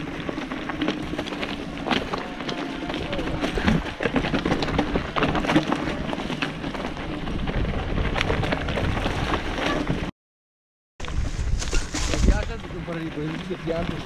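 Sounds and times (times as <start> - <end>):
bike rattling: 0.0 - 10.1, 11.0 - 14.0
tyres crunching over stones: 0.0 - 10.1, 11.0 - 14.0.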